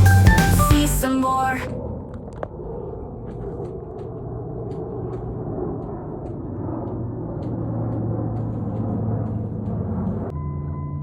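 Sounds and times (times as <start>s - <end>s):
airplane engine rumble: 0.0s - 11.0s.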